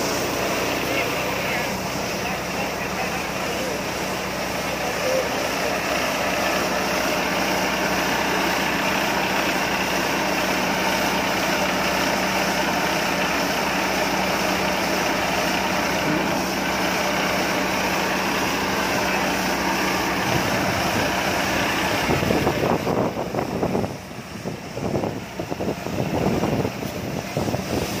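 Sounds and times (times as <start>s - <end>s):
combine harvester engine humming: 0.0s - 28.0s.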